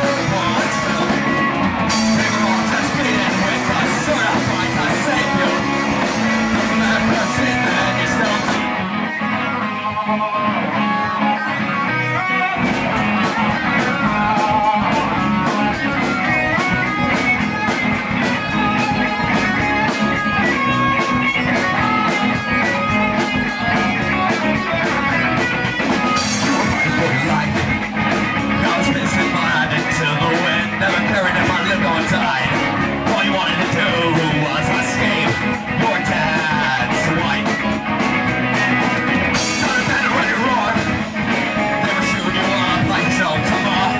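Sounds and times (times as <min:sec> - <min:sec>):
electric guitars: 0:00.0 - 0:43.9
punk rock band playing: 0:00.0 - 0:43.9.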